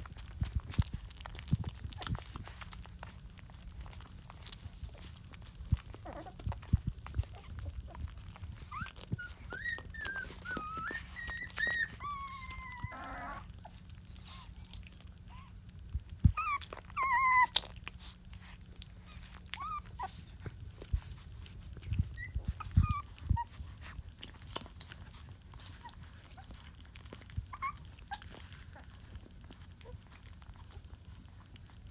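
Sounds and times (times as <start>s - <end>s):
puppies squeaking and whimpering: 0.0s - 31.5s.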